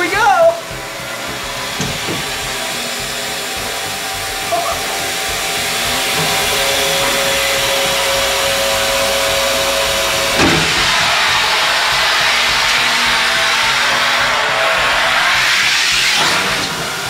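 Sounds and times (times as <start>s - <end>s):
grinding machine whirring: 0.0s - 17.0s.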